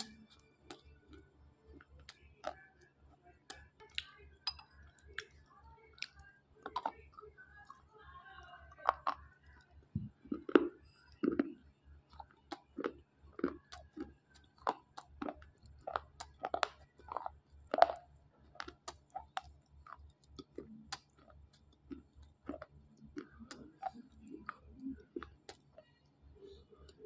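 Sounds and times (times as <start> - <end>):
chewing crunches and clicks: 0.0 - 8.0, 8.7 - 27.0.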